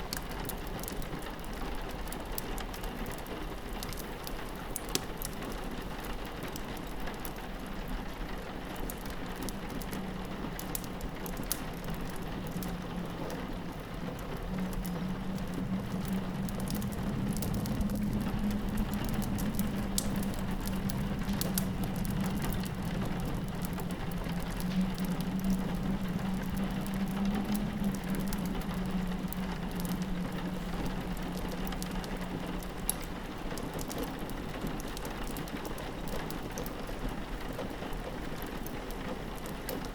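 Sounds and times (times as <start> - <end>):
fireplace crackling and popping: 0.0 - 39.9
low wind howl: 0.0 - 39.9
rain hitting a window: 0.0 - 39.9.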